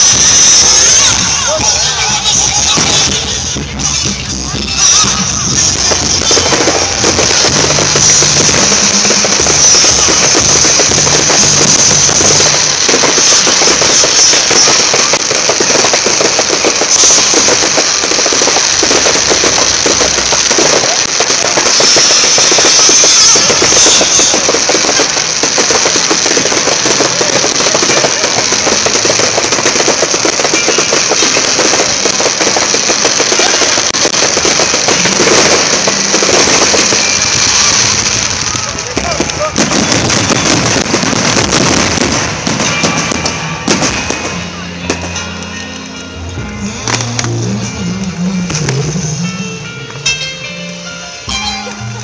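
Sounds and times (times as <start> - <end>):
fireworks crackling: 0.0 - 52.0.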